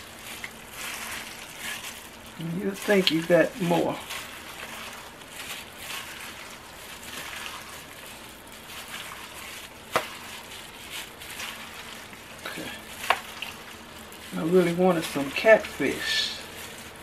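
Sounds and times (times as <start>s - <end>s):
wet squelching of raw chicken: 0.0s - 17.0s.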